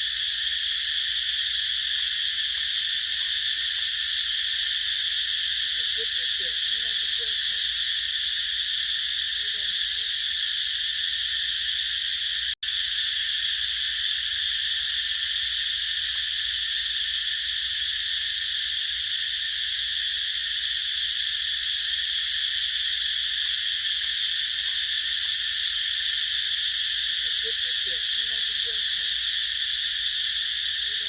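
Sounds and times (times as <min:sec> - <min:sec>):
cicadas chorusing: 0:00.0 - 0:31.0.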